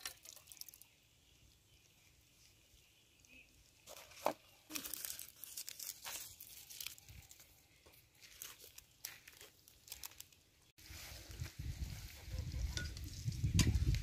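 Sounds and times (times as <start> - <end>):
crinkly rustling: 0.0 - 1.0, 2.3 - 13.4.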